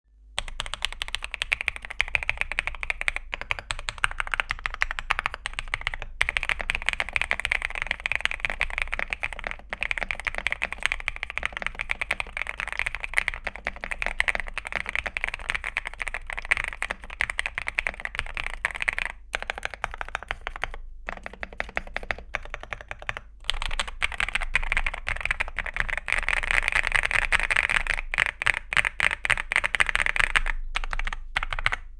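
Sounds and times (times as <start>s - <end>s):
mechanical keyboard typing: 0.4s - 31.9s.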